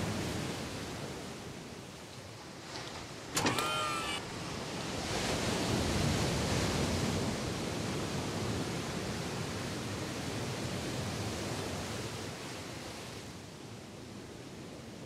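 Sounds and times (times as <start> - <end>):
surf washing up a beach: 0.0 - 3.3, 4.3 - 15.0.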